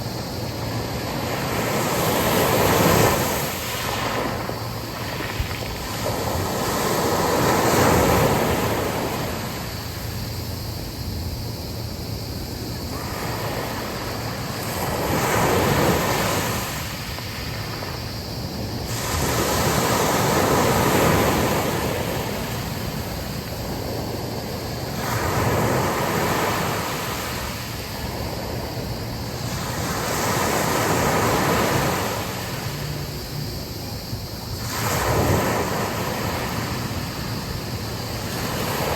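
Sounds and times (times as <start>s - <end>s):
sea waves breaking on beach: 0.0s - 11.1s, 12.5s - 38.9s.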